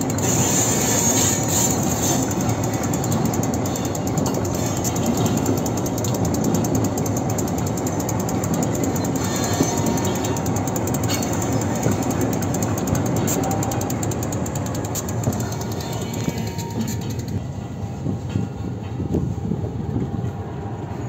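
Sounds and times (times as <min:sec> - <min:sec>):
rails clicking: 0:00.0 - 0:20.4
train wheels rumbling: 0:00.0 - 0:21.0.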